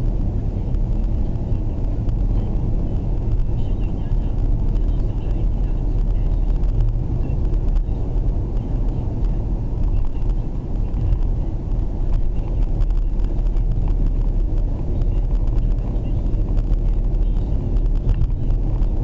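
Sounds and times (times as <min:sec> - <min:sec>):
car cabin engine and tyre rumble: 0:00.0 - 0:19.0.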